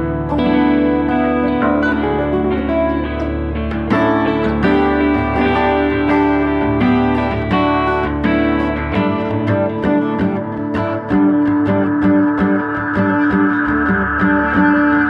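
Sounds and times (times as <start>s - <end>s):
plucked and strummed guitar: 0.0s - 15.0s
sustained bass line: 0.0s - 15.0s.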